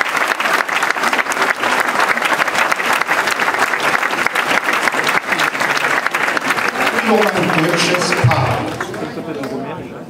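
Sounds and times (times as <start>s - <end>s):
audience applause: 0.0s - 9.7s.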